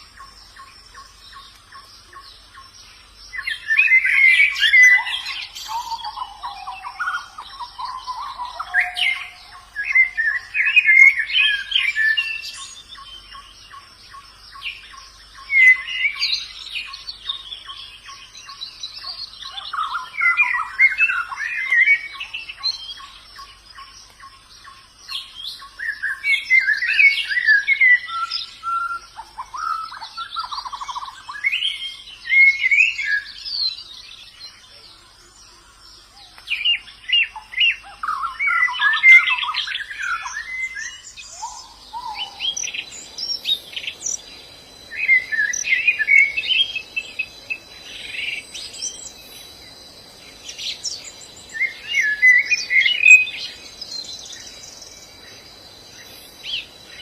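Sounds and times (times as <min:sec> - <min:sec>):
birds twittering song: 0:00.0 - 0:57.0.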